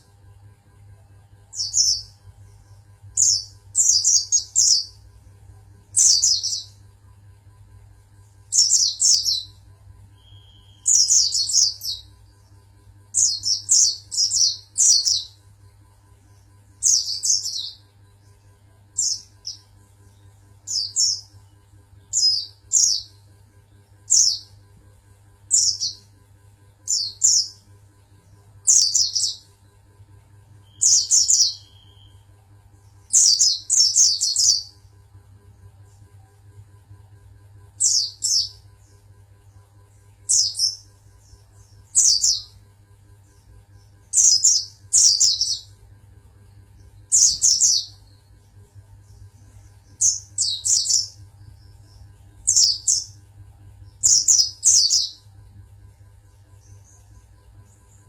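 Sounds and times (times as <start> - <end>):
faint low hum: 0.0 - 58.0
small bird chirping song: 0.0 - 58.0.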